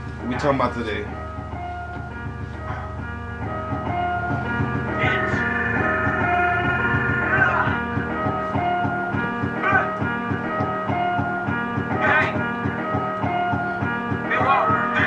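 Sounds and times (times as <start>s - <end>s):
plucked-string melody: 0.0s - 15.0s
steady beat: 0.0s - 15.0s.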